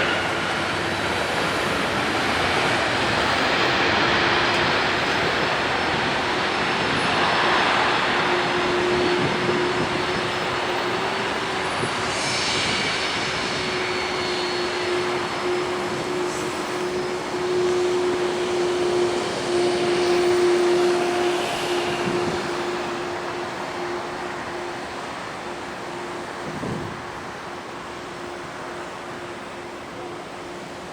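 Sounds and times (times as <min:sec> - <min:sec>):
jet engines rushing: 0:00.0 - 0:30.9.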